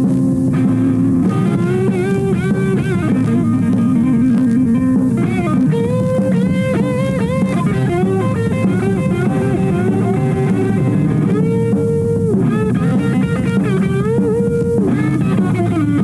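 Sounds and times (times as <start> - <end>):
lead guitar bent notes: 0.0 - 16.0
rock music: 0.0 - 16.0.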